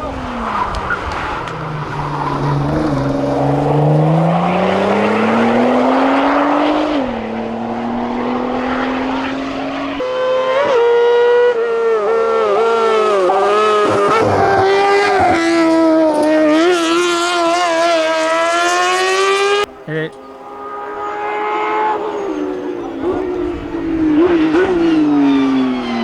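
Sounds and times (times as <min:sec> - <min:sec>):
racing car engine accelerating: 0:00.0 - 0:26.0.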